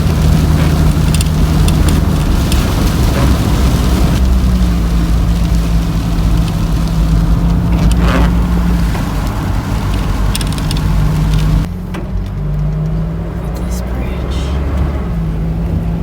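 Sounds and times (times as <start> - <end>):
van engine and tyre noise: 0.0 - 16.0.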